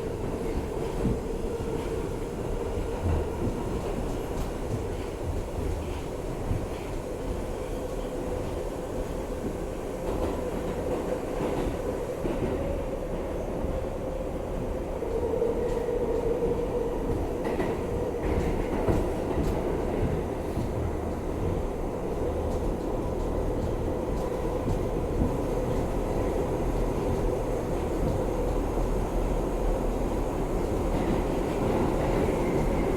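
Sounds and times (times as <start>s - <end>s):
subway train rumble: 0.0s - 32.9s.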